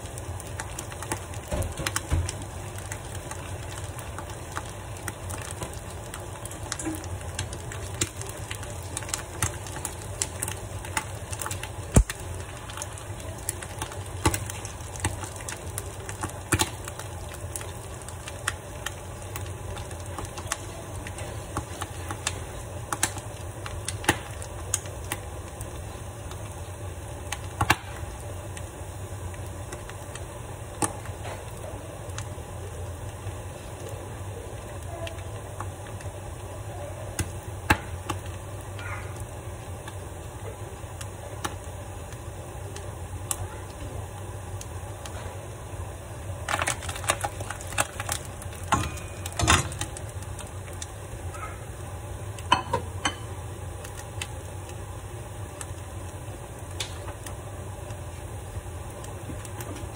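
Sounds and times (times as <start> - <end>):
crackles and pops: 0.0 - 59.9
food frying in oil: 0.0 - 59.9
steady low hum: 0.0 - 59.9.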